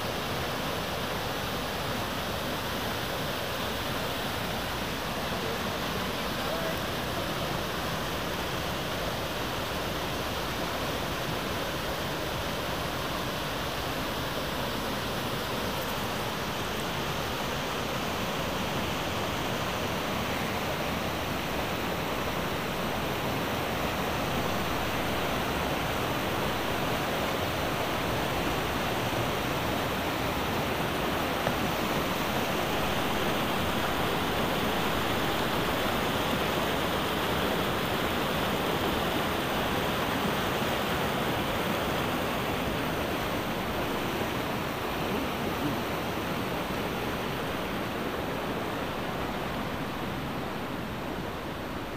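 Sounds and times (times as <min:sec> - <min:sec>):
whitewater tumbling over boulders: 0:00.0 - 0:51.9.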